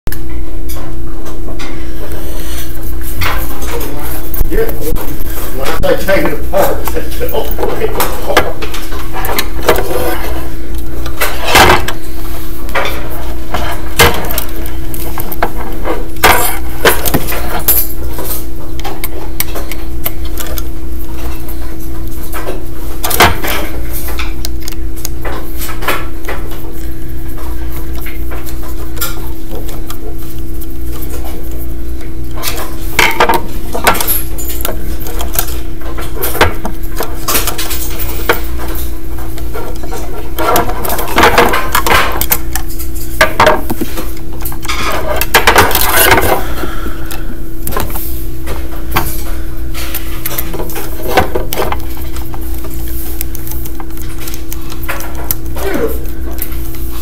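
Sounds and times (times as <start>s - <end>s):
steady low hum: 0.1s - 57.0s.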